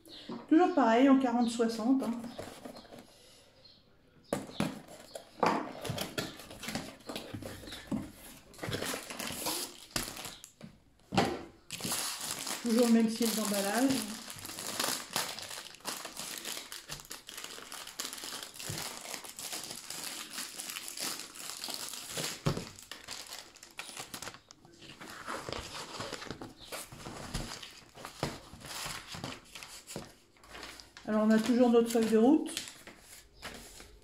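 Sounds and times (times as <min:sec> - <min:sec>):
paper cover rustling: 0:02.0 - 0:03.1, 0:04.4 - 0:10.5, 0:11.7 - 0:34.0
plastic wrapping crinkling: 0:04.6 - 0:10.7, 0:11.6 - 0:34.0.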